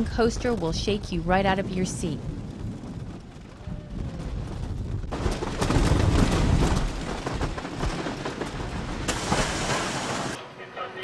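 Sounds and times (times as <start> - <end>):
roller coaster clattering on track: 0.0 - 9.3.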